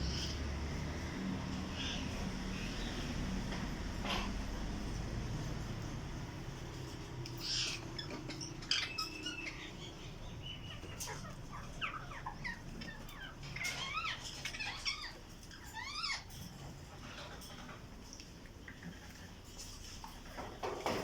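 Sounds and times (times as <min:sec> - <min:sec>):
parakeets chirping and squawking: 0:00.0 - 0:17.9.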